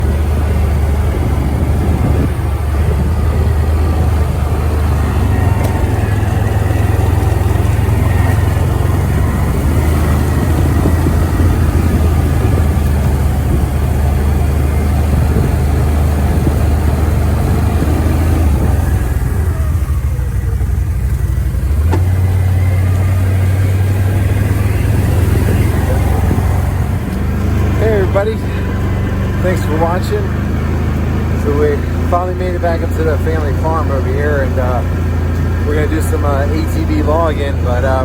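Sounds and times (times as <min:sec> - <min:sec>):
atv engine running at low revs: 0:00.0 - 0:38.0.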